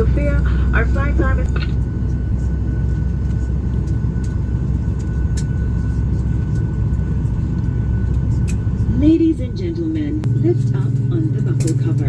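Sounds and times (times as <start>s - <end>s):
high steady whine: 0.0s - 12.0s
low cabin rumble: 0.0s - 12.0s.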